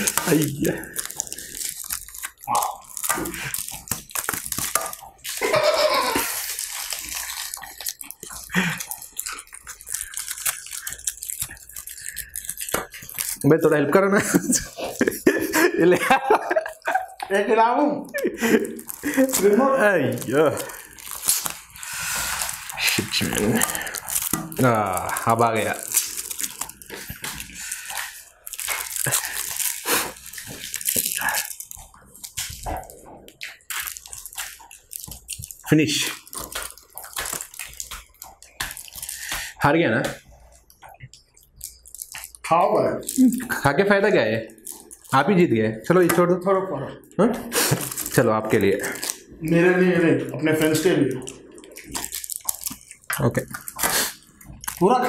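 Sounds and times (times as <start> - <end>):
chocolate being bitten: 0.0 - 17.3, 18.0 - 46.2, 47.4 - 49.7, 50.3 - 55.0
wrapper crinkling: 0.0 - 46.2, 47.4 - 55.0
wrapper rustling: 0.0 - 46.2, 47.4 - 55.0.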